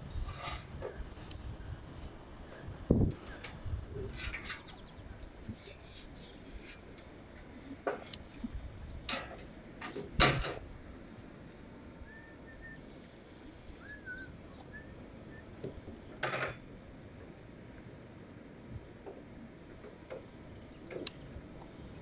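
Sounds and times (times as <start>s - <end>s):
low background hiss: 1.3s - 22.0s.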